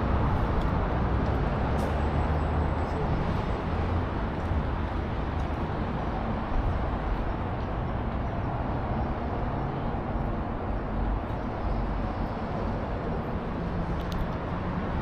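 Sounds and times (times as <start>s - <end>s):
low city rumble: 0.0s - 15.0s.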